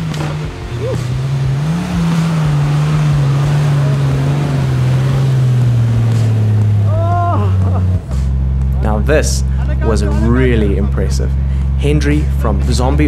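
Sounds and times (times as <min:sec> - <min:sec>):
truck engine working under load: 0:00.0 - 0:13.0.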